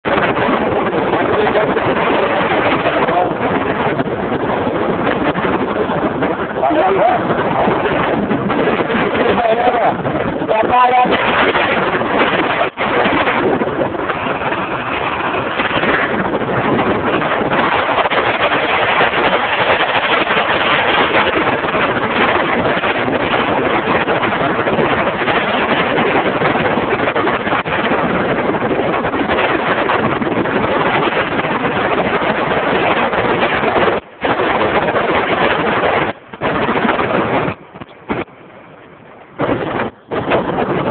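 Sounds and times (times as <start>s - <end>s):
wind rushing on microphone: 0.0s - 40.9s.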